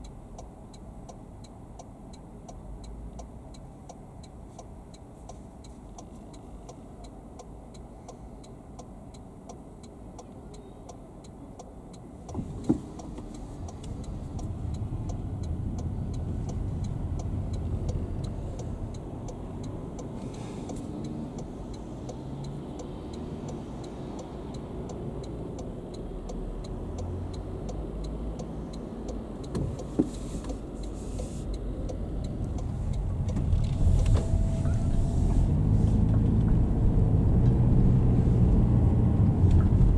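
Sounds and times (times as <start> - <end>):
steady ticking: 0.0 - 34.0
car engine and road noise: 0.0 - 39.9.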